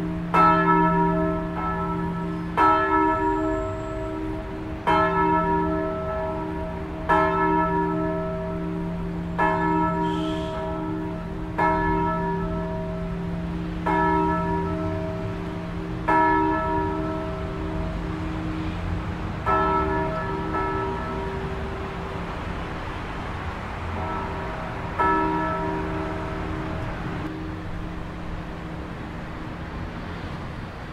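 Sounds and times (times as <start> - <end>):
church bells ringing: 0.0 - 22.8, 23.8 - 30.4.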